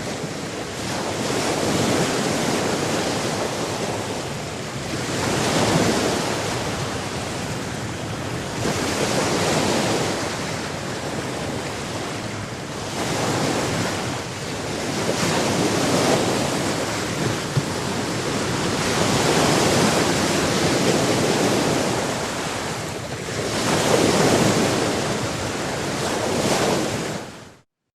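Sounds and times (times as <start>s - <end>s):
sea waves washing in: 0.0s - 27.6s.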